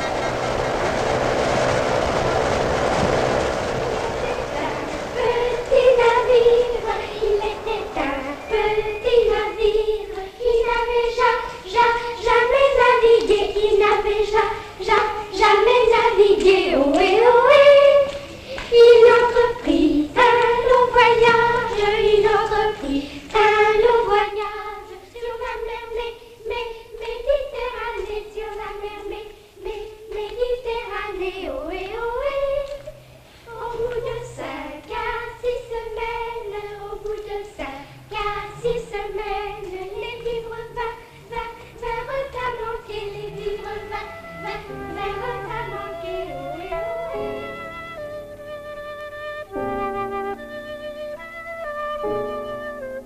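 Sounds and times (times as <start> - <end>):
girls singing together: 4.2 - 47.4.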